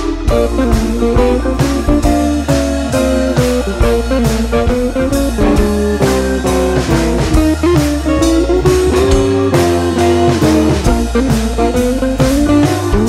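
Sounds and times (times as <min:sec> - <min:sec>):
blues-rock music: 0:00.0 - 0:13.0.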